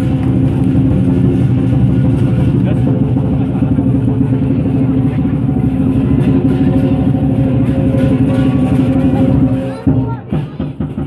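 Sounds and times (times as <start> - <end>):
ringing metal tone: 0.0 - 10.1
drum roll: 0.0 - 11.0.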